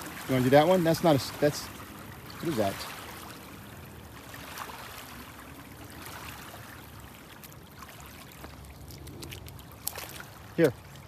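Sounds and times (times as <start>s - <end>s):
small waves lapping on pebbles: 0.0s - 11.0s.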